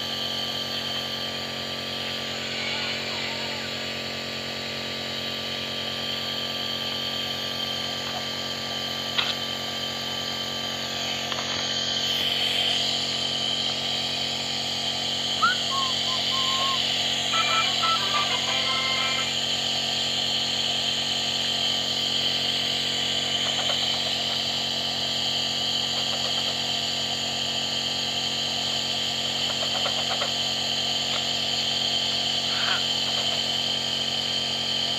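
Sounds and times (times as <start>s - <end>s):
nebulizer motor hum with air hiss: 0.0s - 34.9s.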